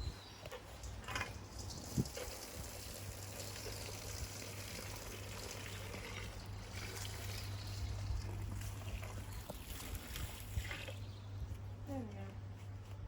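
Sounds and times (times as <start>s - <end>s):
water trickling into fountain: 0.5s - 11.2s.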